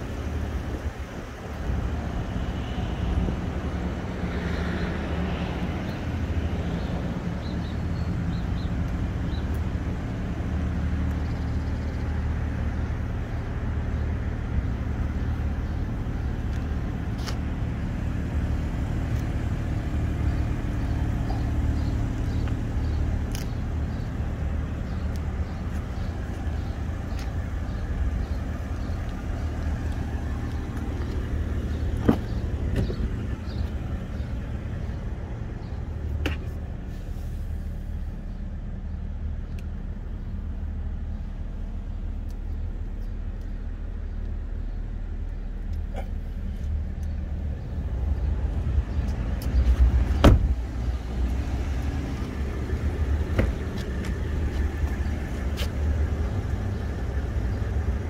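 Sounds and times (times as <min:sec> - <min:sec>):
car engine running steadily: 0:00.0 - 0:58.0.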